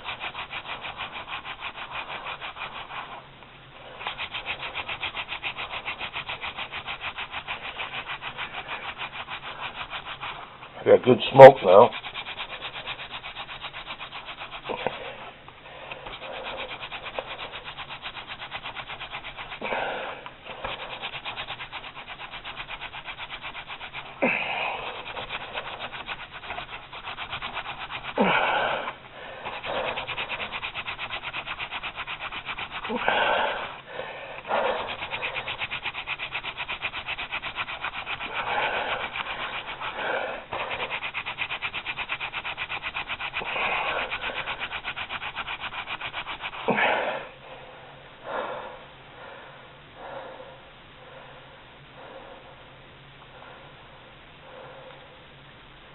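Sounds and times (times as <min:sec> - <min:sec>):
wooden spindle rubbing wood: 0:00.0 - 0:46.8.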